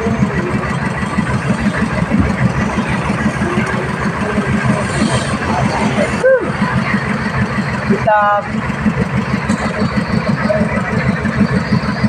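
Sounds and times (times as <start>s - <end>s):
concrete mixer engine running: 0.0s - 12.0s.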